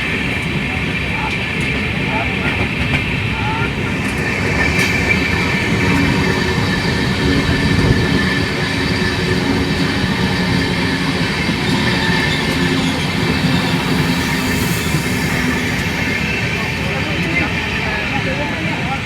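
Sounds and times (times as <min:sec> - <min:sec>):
train wheels rumbling on rails: 0:00.0 - 0:19.0
high wheel squeal: 0:03.1 - 0:19.0.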